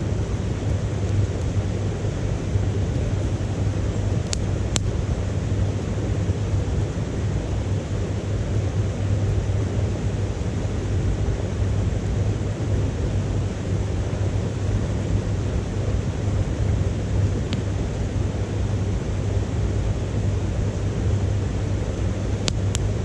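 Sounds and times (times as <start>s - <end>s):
wood fire roaring in stove: 0.0s - 23.0s.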